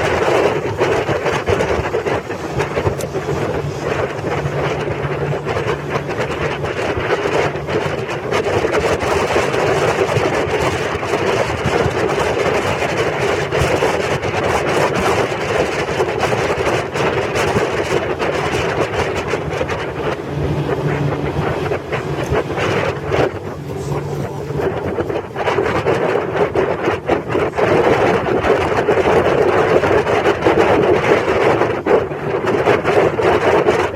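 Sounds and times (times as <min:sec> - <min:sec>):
motorboat engine running: 0:00.0 - 0:33.9
wind on microphone: 0:00.0 - 0:33.9.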